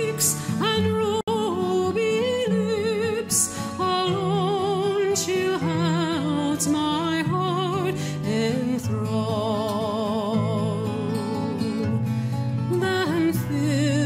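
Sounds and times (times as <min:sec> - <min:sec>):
slow song with sung vocals: 0:00.0 - 0:14.0.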